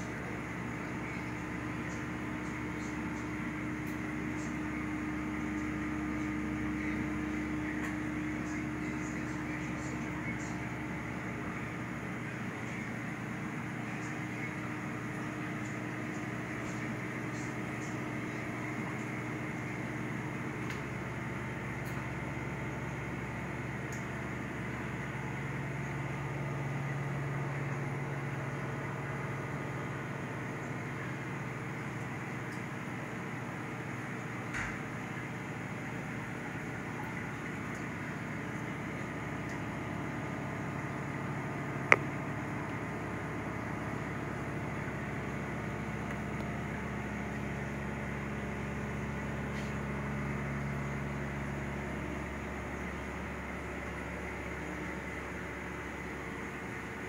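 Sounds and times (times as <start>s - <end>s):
aquarium equipment hum and hiss: 0.0s - 57.0s.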